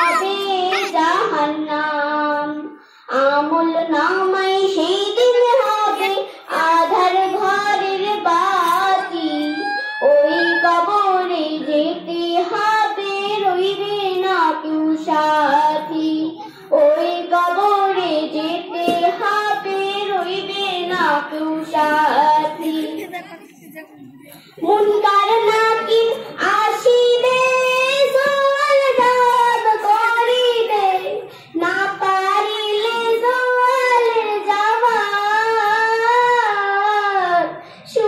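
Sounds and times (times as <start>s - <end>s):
girl singing into a microphone: 0.0s - 23.4s, 24.4s - 38.0s.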